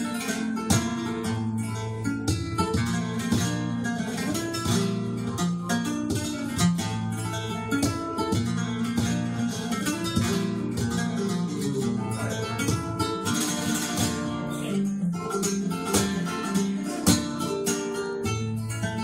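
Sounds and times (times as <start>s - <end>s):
flamenco guitar playing: 0.0s - 19.0s.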